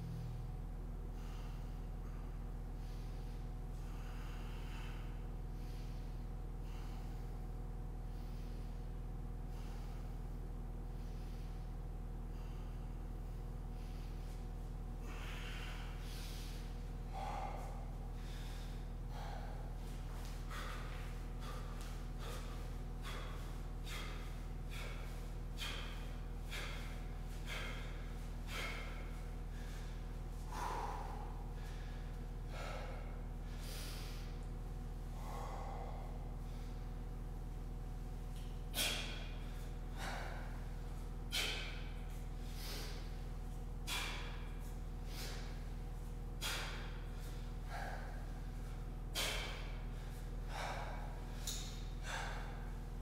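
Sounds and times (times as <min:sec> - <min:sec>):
low hum: 0:00.0 - 0:53.0
man breathing hard: 0:00.0 - 0:53.0.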